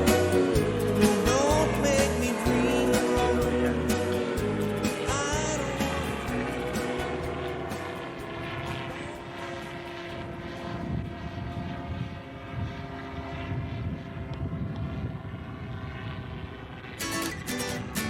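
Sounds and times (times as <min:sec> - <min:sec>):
model airplane propeller engine: 0:00.0 - 0:18.0.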